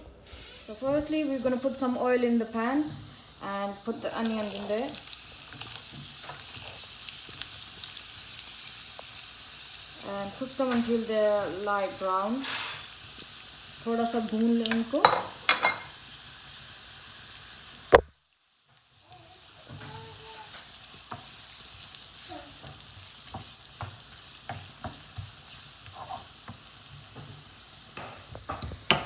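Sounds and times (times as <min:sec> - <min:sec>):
onions sizzling in a pan: 0:00.0 - 0:29.0.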